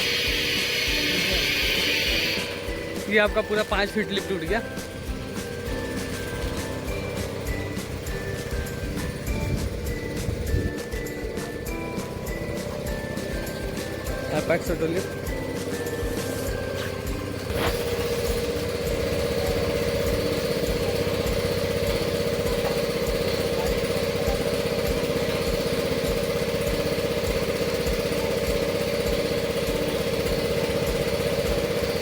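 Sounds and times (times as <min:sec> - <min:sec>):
hydraulic pump humming: 0:00.0 - 0:32.0.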